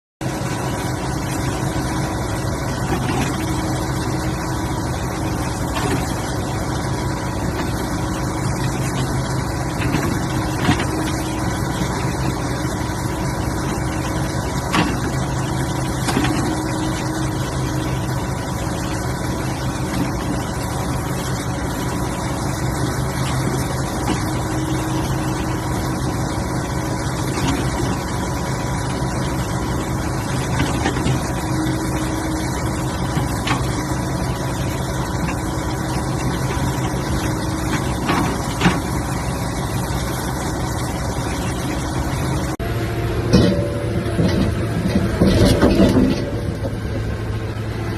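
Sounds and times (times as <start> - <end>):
excavator engine running: 0.2 - 47.9.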